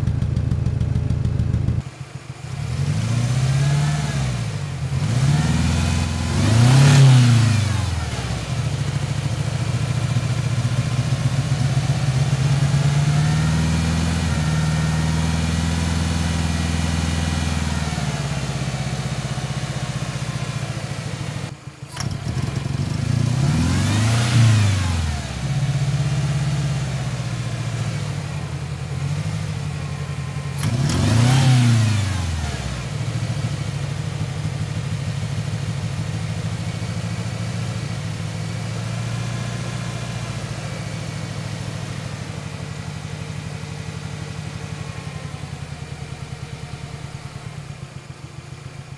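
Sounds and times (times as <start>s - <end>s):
engine throttle blips: 0.0s - 48.8s
truck engine idling rough: 0.0s - 48.9s.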